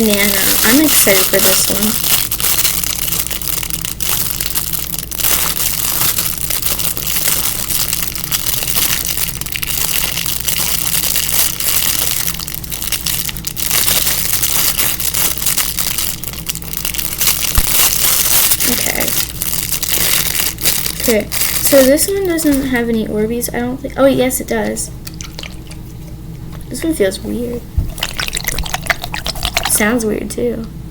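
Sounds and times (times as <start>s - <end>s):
plastic packaging crinkling: 0.0s - 23.1s, 27.8s - 30.0s.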